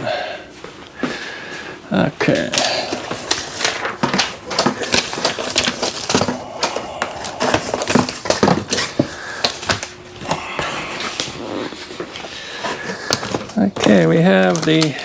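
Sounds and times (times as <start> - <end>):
packaging clicking and crinkling: 2.2 - 15.0.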